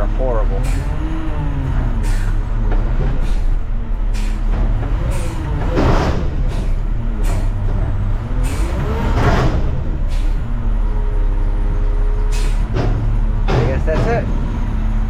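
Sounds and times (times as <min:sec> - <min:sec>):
garbage truck diesel engine: 0:00.0 - 0:15.0.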